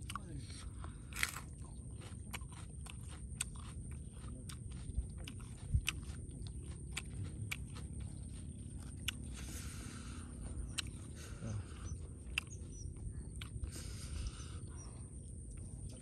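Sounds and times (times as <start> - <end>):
man chewing crunchy food: 0.0 - 16.0.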